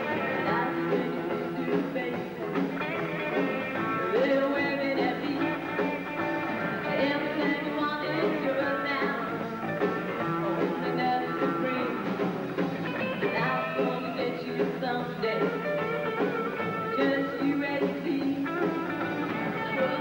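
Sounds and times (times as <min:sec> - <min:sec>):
drums: 0:00.0 - 0:20.0
electric guitar: 0:00.0 - 0:20.0
person singing: 0:00.0 - 0:20.0.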